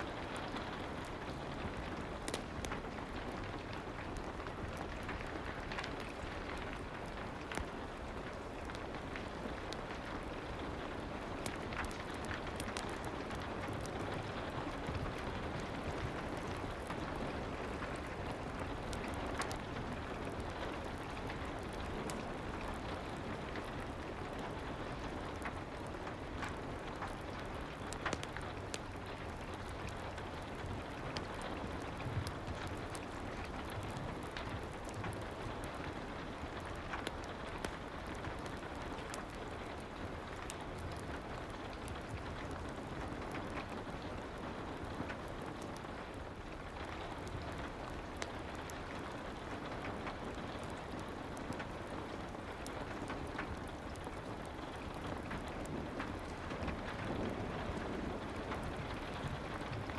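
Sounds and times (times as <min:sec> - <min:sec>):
fireplace crackling: 0:00.0 - 0:59.9
soft steady rain: 0:00.0 - 0:59.9.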